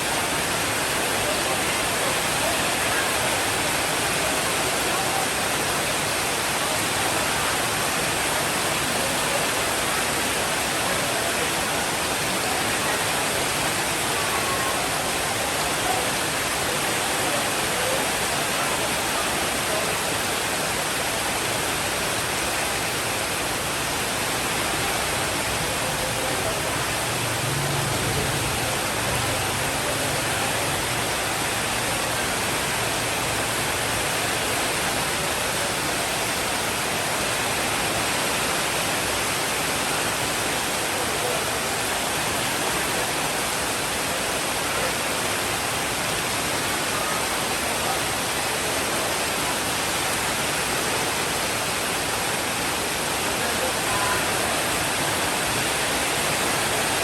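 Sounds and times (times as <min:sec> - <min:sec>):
dense rainfall hiss: 0:00.0 - 0:57.0.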